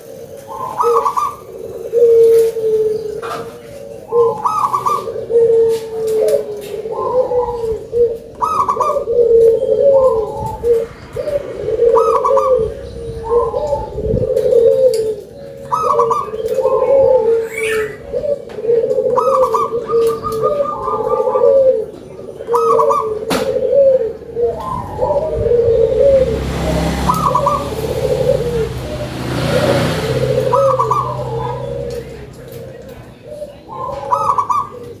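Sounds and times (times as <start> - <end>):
dove cooing: 0.0 - 35.0.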